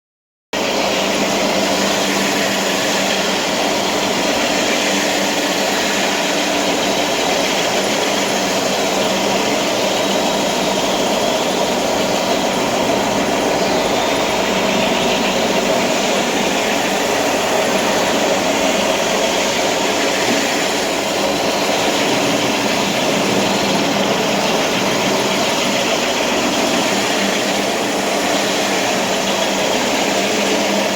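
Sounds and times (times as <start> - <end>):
machine droning: 0.6 - 30.9.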